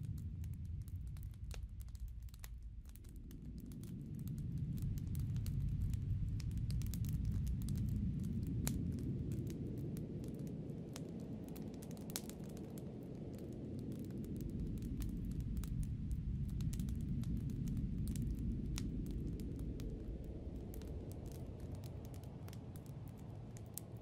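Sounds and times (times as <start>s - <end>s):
sharp crackles: 0.0s - 24.0s.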